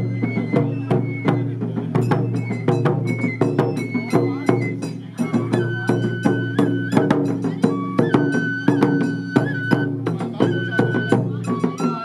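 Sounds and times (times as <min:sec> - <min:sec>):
bamboo flutes playing melody: 0:00.0 - 0:12.0
taiko drum beating: 0:00.0 - 0:12.0.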